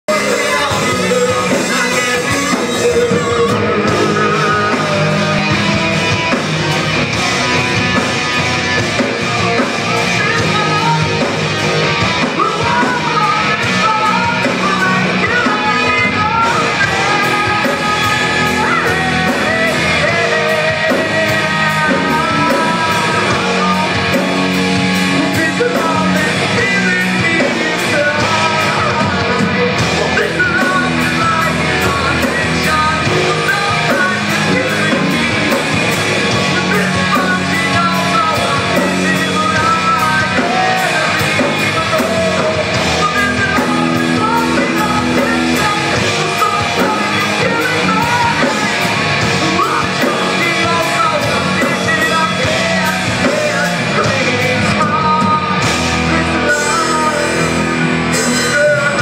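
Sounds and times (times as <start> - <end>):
bass guitar: 0.0 - 59.0
electric guitar: 0.0 - 59.0
man singing: 0.0 - 59.0
drumbeat: 0.1 - 59.0.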